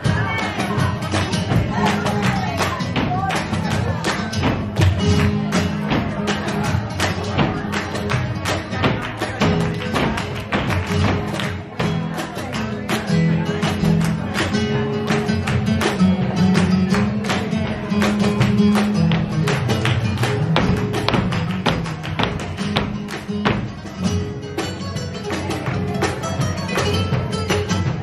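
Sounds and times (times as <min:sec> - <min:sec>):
flamenco guitar music: 0:00.0 - 0:28.0
sharp hand claps: 0:00.4 - 0:24.0.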